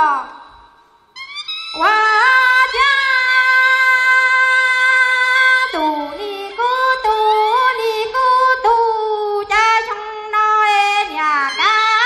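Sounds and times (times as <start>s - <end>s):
woman singing into a microphone: 1.7s - 12.0s.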